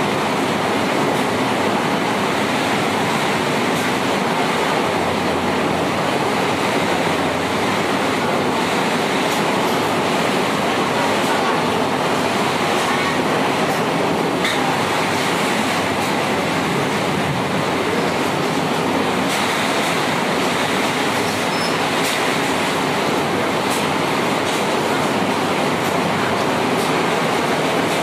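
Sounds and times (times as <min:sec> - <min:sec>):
heavy rain hissing: 0:00.0 - 0:28.0.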